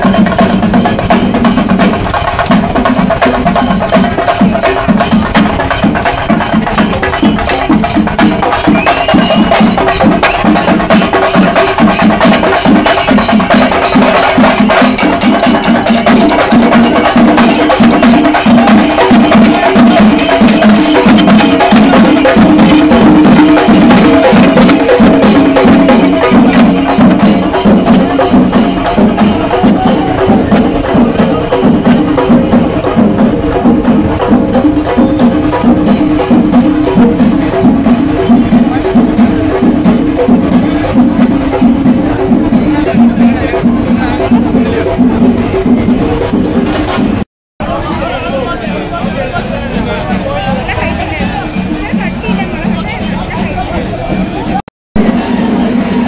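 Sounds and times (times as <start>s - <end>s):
drum ensemble drumming: 0.0s - 56.0s.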